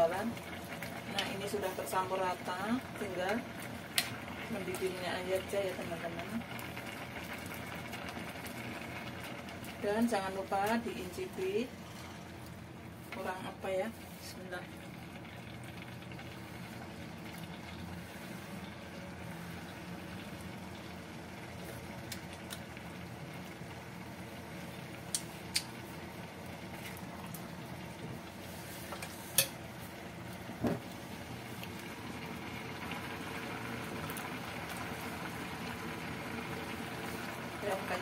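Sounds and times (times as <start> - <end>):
stew bubbling in a pot: 0.0 - 38.0.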